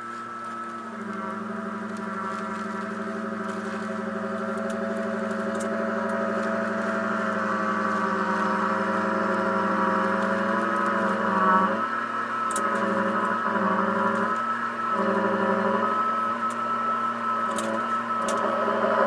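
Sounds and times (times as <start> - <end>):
garden tractor engine running: 0.0 - 19.0.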